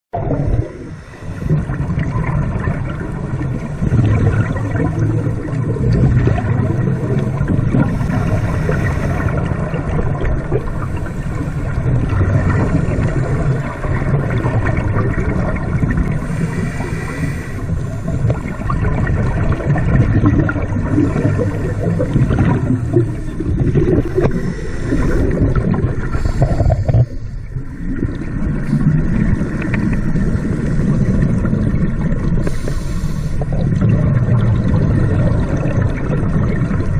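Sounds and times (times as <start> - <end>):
regulator bubbles gurgling: 0.1 - 36.9
underwater low rumble: 0.1 - 36.9.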